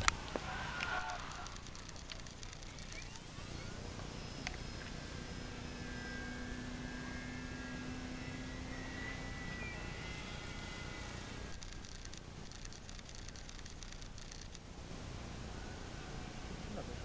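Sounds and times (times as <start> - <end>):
model glider motor whine: 0.0 - 17.0.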